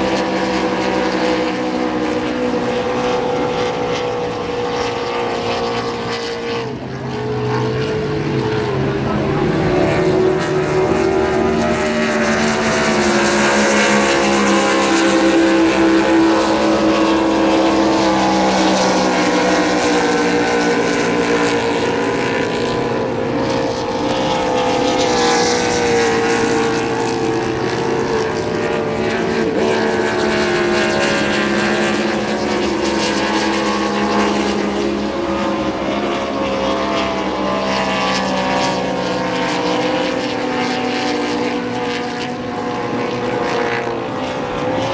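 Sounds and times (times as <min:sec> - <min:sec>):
race boat engines running hard: 0:00.0 - 0:44.9.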